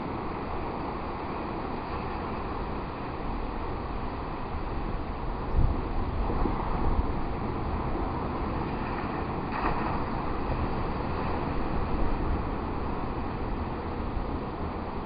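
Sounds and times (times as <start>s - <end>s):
storm wind gusting on microphone: 0.0s - 15.0s.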